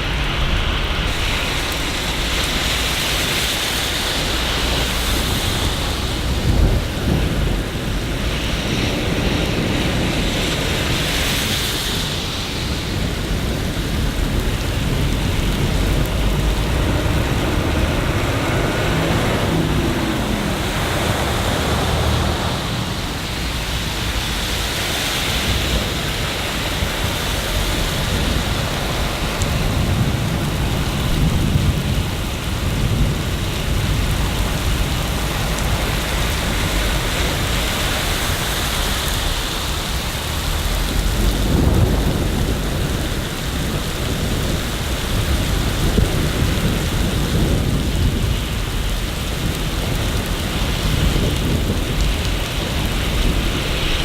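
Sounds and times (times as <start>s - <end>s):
thunder rolling: 0.0s - 11.2s, 11.9s - 54.0s
steady rain: 0.0s - 54.0s.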